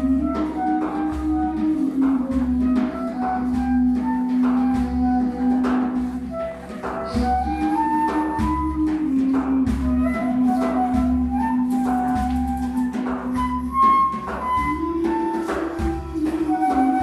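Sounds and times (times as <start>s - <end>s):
flute-like wind melody: 0.0s - 17.0s
steady drum beat: 0.0s - 17.0s.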